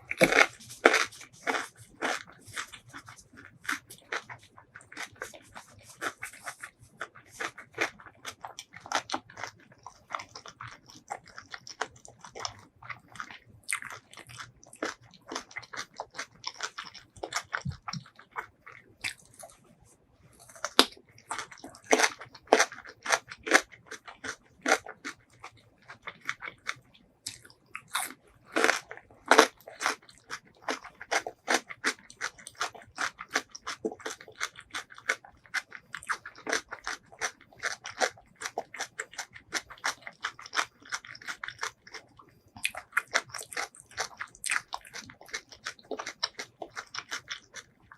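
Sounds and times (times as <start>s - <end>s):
chewing and biting food: 0.0s - 47.9s.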